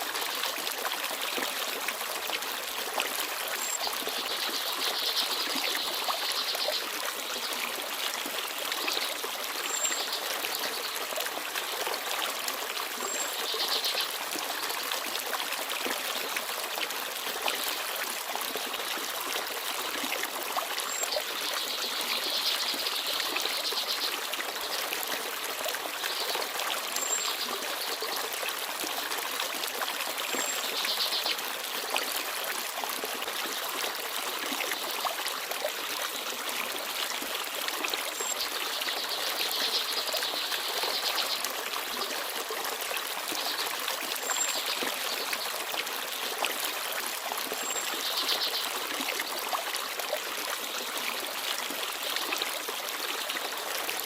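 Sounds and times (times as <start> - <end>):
forest stream babbling: 0.0 - 54.0.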